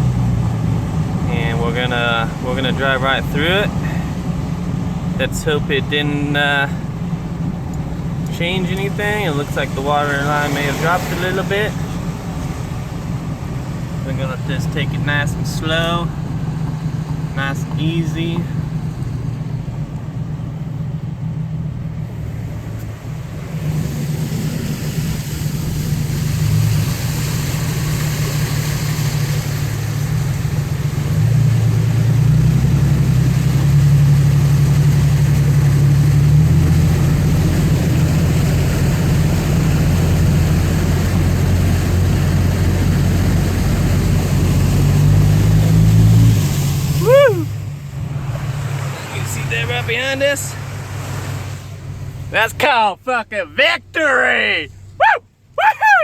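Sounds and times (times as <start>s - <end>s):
truck engine driving through water: 0.0s - 56.0s.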